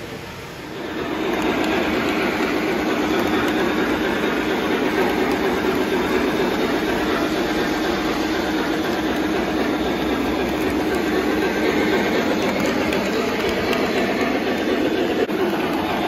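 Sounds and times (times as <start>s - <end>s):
model train rumbling on rails: 0.0s - 16.0s
faint clickety-clack: 0.8s - 16.0s.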